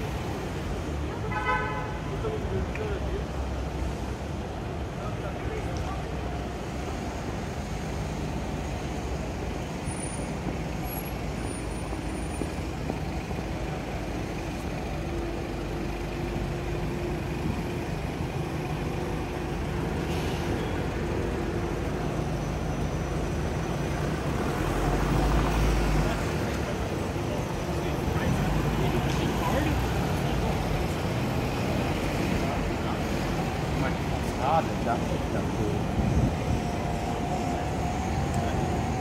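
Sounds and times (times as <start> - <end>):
heavy vehicle rumble: 0.0 - 39.0
road traffic passing: 0.0 - 39.0.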